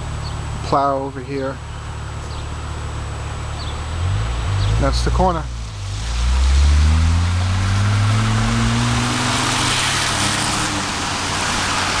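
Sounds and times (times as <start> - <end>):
motor vehicle engine running: 0.0 - 12.0.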